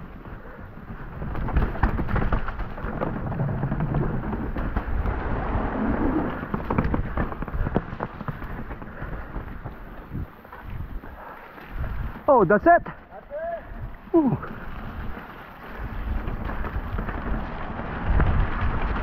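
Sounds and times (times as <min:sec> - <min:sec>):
bike knocking and rattling: 0:00.0 - 0:19.0
bike tyres rumbling: 0:00.0 - 0:19.0.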